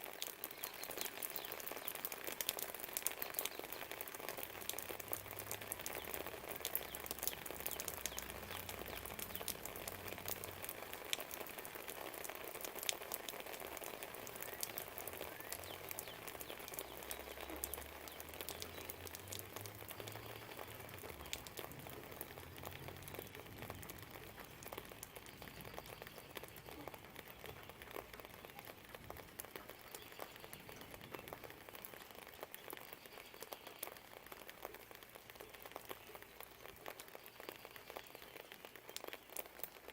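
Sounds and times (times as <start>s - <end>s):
rain drips pattering: 0.0s - 39.9s
rain hiss: 0.0s - 39.9s.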